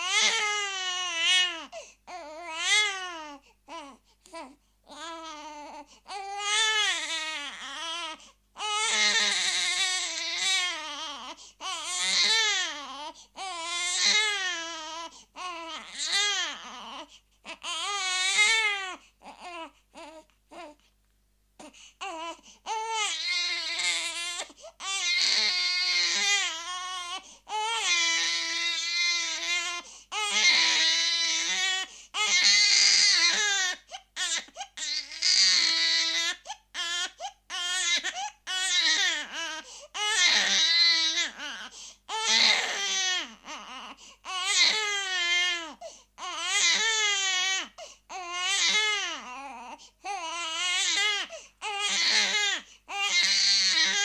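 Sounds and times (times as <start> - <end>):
baby crying: 0.0 - 20.8, 21.6 - 54.0.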